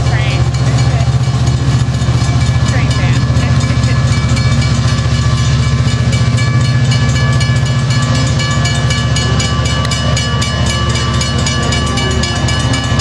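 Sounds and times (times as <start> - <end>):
passenger train rumbling past: 0.0 - 13.0.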